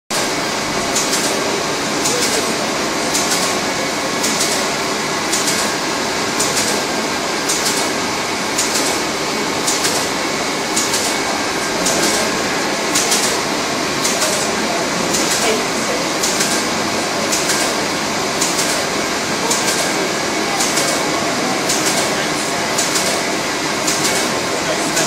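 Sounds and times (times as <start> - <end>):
machine whirring and clattering: 0.1 - 25.0.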